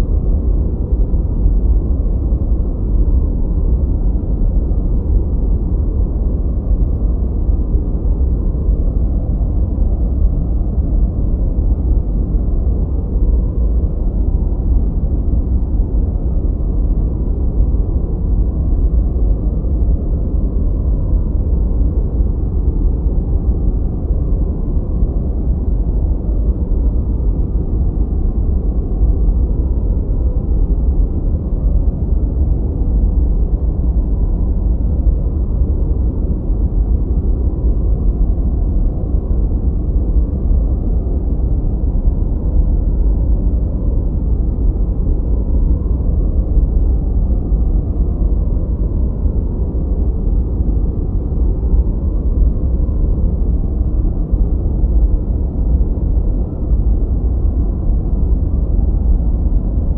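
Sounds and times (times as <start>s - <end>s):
deep white noise rumble: 0.0s - 59.9s.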